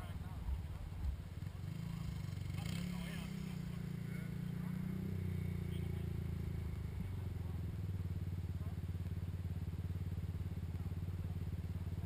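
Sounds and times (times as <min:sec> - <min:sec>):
atv engine running steadily: 0:00.0 - 0:12.0.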